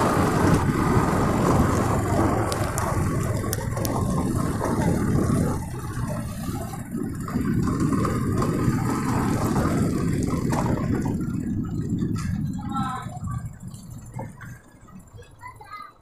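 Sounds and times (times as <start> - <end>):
motorcycle engine running: 0.0 - 15.7
wind and road noise: 0.0 - 16.0.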